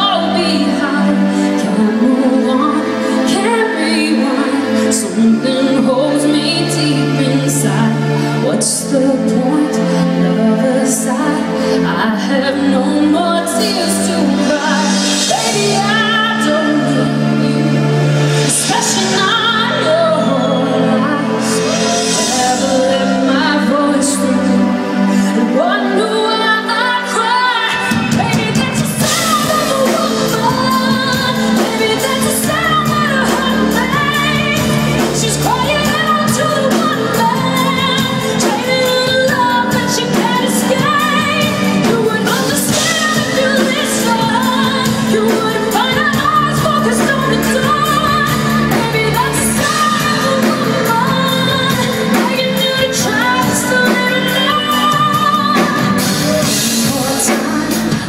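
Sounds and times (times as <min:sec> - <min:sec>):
live pop band playing: 0:00.0 - 0:58.0
woman singing: 0:00.0 - 0:58.0.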